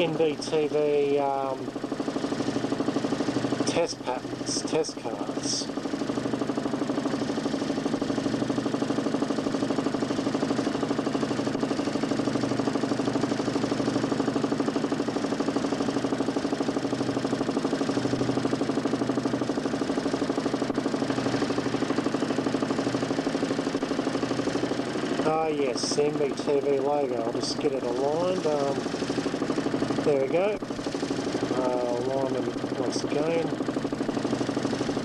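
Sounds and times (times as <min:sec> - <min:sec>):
motor spinning disc pulsing hum: 0:00.0 - 0:35.0.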